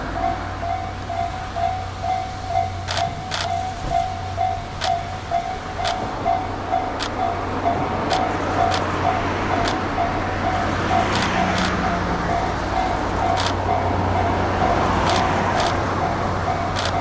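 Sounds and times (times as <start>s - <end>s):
level-crossing alarm ringing: 0.0s - 17.0s
steady rumble: 0.0s - 17.0s.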